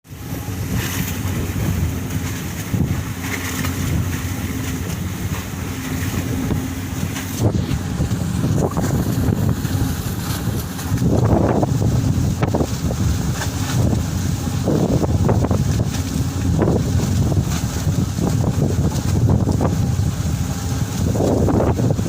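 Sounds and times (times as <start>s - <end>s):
ferry engines humming: 0.1s - 21.6s
wind buffeting microphone: 0.1s - 22.0s.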